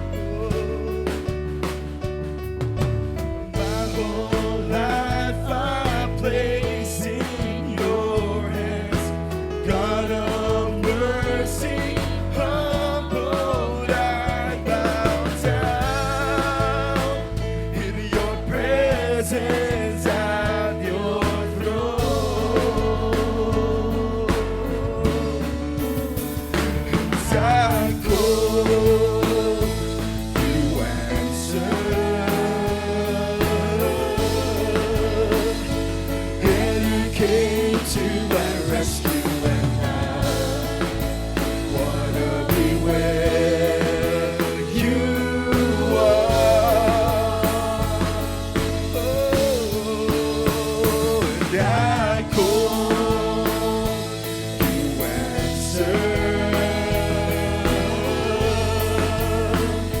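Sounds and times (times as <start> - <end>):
person singing: 0.0 - 1.5, 3.6 - 60.0
worship band music: 0.0 - 60.0.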